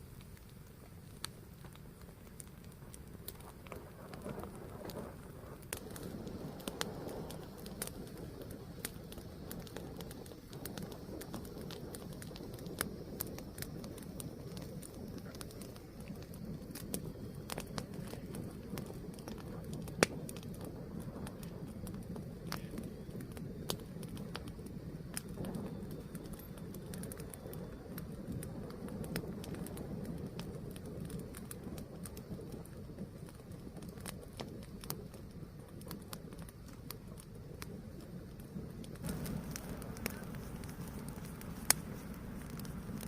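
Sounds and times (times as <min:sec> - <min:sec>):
fire crackling and popping: 0:00.0 - 0:43.0
fire rumbling: 0:00.0 - 0:43.0.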